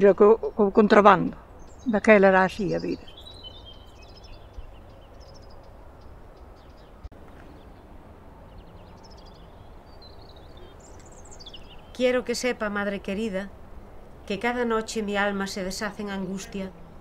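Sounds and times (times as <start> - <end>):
low outdoor hum: 0.0 - 17.0
small birds chirping: 0.0 - 17.0.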